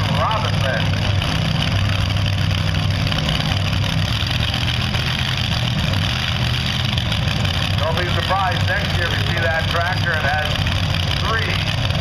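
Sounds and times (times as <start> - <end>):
tractor engines droning: 0.0 - 12.0.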